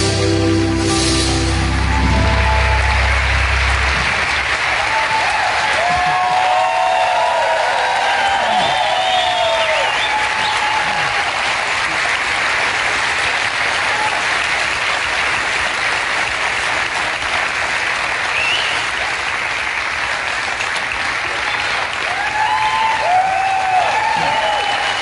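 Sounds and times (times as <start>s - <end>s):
audience applauding: 1.2s - 25.0s.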